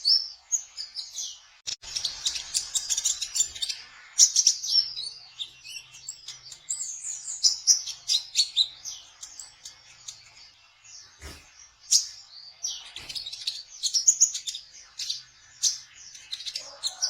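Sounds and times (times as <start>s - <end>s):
sunbird twittering song: 0.0s - 17.0s.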